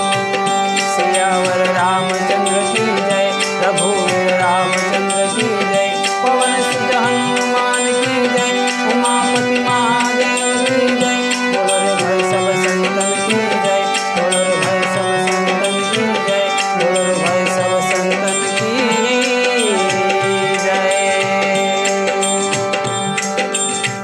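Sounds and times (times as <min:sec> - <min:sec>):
steady drone: 0:00.0 - 0:23.6
held melody: 0:00.0 - 0:24.0
tabla: 0:00.0 - 0:24.0.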